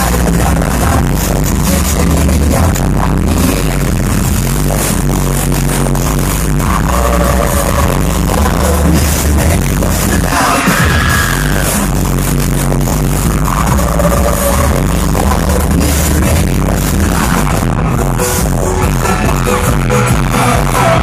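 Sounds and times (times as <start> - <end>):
electronic pop music with heavy bass: 0.0 - 21.0.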